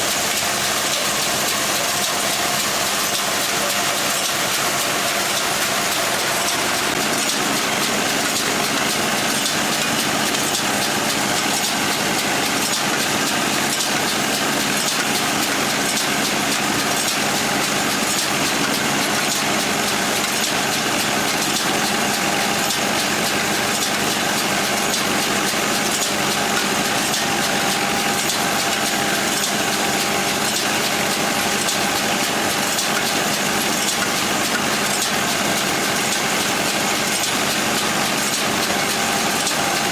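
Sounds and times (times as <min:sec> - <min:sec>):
constant mechanical whine: 0:00.0 - 0:39.9
farm machine engine running: 0:00.0 - 0:39.9.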